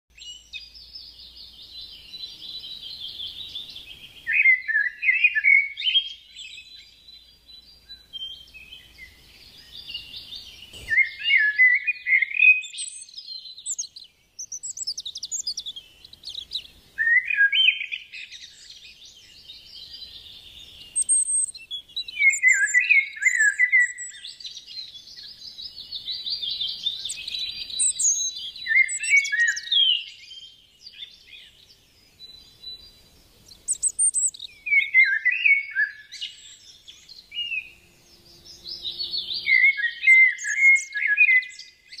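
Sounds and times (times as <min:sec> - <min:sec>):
birds singing: 0:00.1 - 0:42.0.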